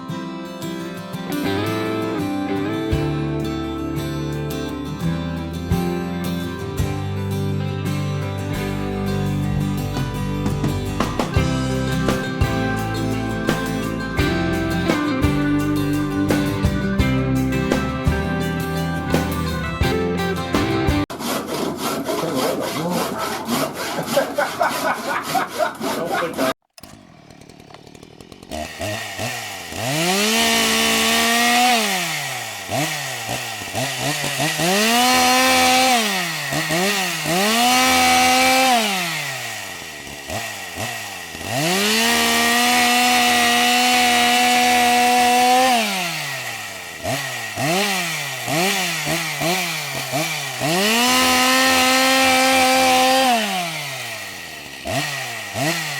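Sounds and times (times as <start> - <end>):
chainsaw revving: 1.2 - 55.9.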